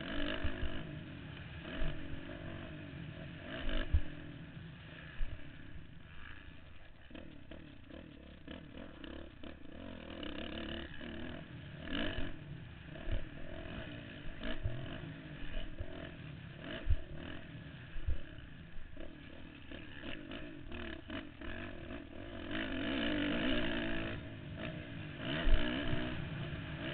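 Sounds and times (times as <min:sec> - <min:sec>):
motocross engine revving: 0:00.0 - 0:26.9.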